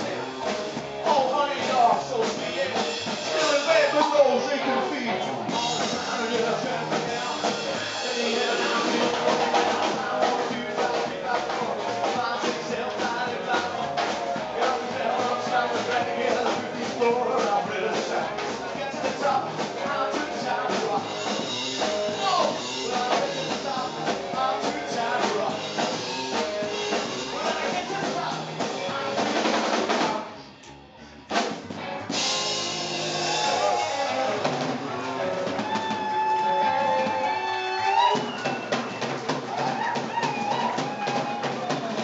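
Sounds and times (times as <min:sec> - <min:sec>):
drum kit: 0:00.0 - 0:30.4, 0:31.2 - 0:42.0
upright double bass: 0:00.0 - 0:38.0
electric guitar: 0:00.0 - 0:42.0.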